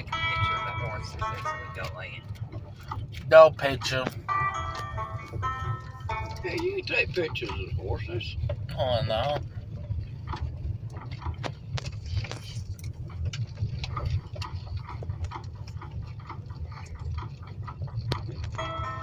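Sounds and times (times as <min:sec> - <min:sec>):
light clicks and ticks: 0:00.0 - 0:19.0
vehicle driving rumble: 0:00.0 - 0:19.0.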